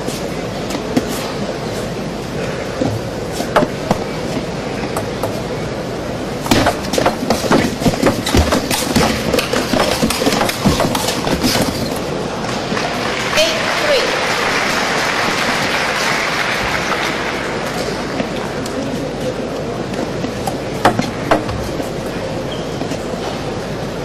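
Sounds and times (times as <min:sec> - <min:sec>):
arena hall background noise: 0:00.0 - 0:24.0.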